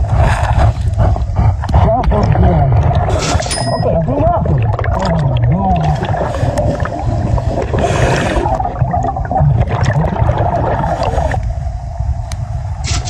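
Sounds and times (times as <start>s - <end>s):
water gurgling: 0.0s - 12.1s
underwater low rumble: 0.0s - 13.0s.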